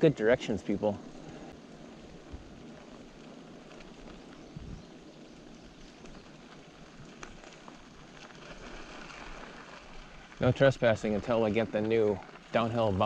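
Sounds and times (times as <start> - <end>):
bike tyres rolling on dirt: 0.0 - 13.0
grit crackling under tyres: 0.0 - 13.0.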